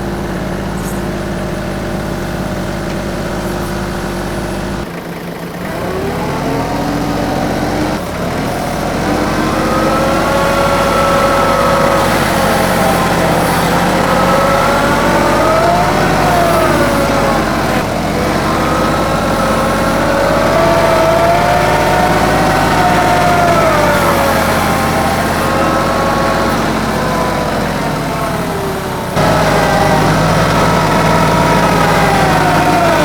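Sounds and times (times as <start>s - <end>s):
diesel tractor engine under load: 0.0s - 33.0s
hydraulic whine rising and falling: 0.0s - 33.0s.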